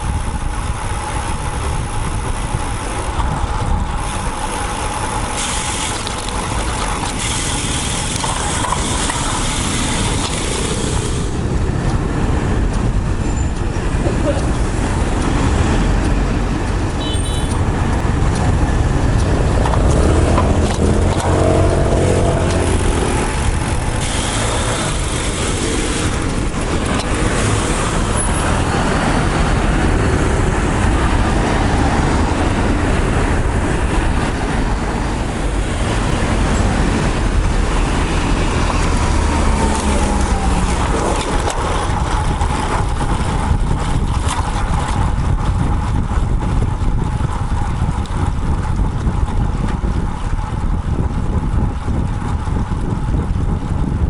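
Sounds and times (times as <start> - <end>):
cars and trucks passing: 0.0 - 50.8
wind rumbling on microphone: 0.0 - 54.0.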